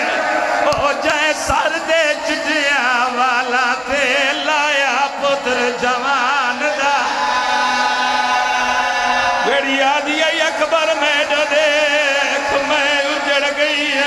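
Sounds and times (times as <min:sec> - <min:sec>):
man chanting into microphone: 0:00.0 - 0:07.8, 0:09.4 - 0:14.0.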